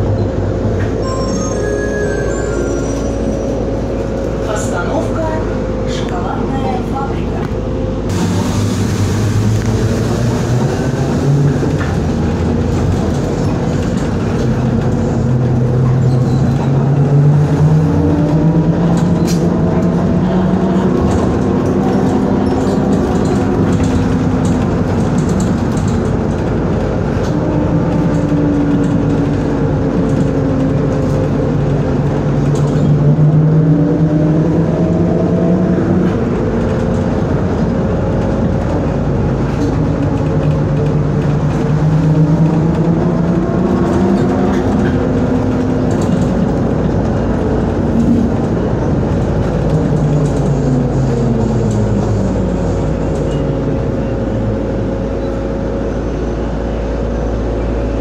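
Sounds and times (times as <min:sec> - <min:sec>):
road noise rumble: 0:00.0 - 0:58.0.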